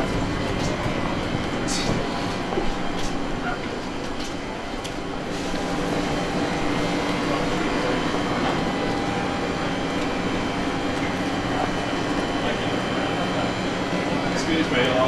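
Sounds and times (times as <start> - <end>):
train running hum: 0.0 - 15.0.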